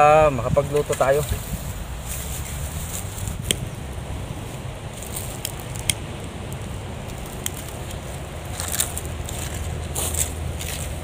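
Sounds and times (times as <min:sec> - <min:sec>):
cooking fire crackling with pops: 0:00.0 - 0:11.0
fire low rumble: 0:00.0 - 0:11.0.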